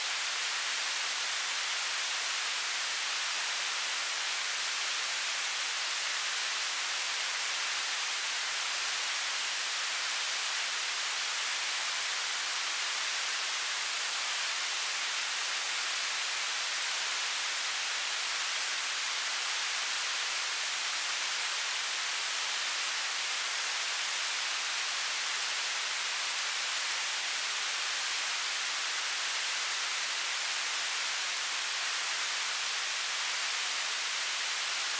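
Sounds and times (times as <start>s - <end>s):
television static hiss: 0.0s - 34.9s.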